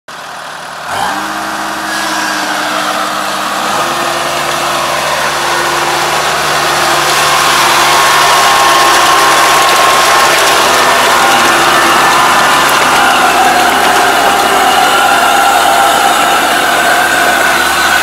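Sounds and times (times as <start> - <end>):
diesel engine running: 0.1 - 18.0
high whine: 0.1 - 18.0.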